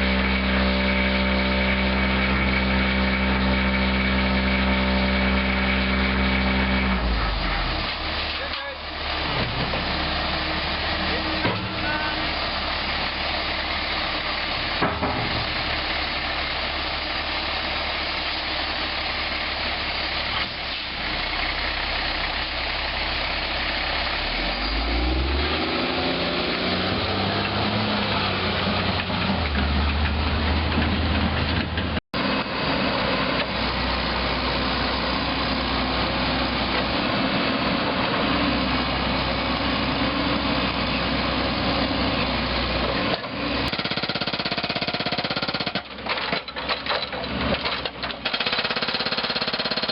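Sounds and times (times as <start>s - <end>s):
heavy vehicle engine running: 0.0s - 49.9s.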